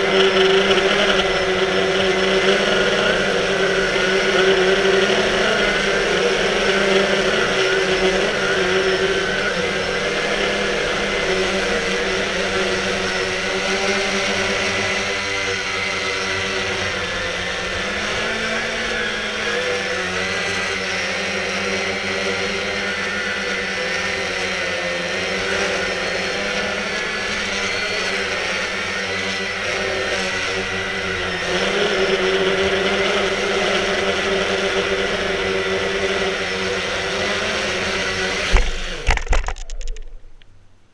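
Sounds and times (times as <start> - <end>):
quadcopter propellers whirring: 0.0 - 40.4.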